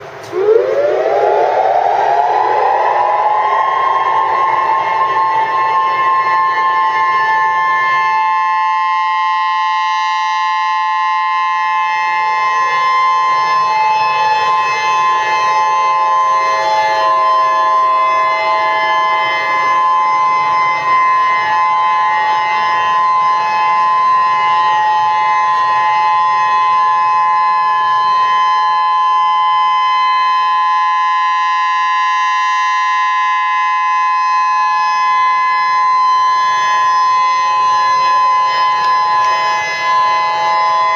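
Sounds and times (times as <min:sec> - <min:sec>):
emergency alert two-note tone: 0:00.2 - 0:40.9.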